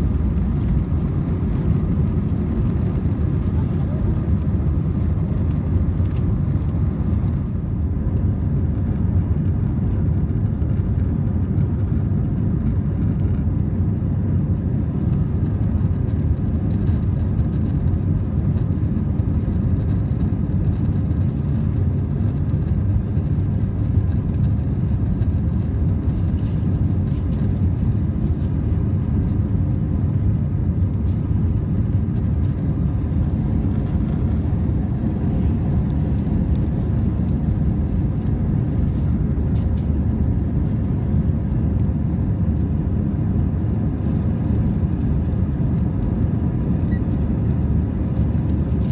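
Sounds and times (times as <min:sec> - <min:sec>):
jet cabin engine rumble: 0:00.0 - 0:48.9.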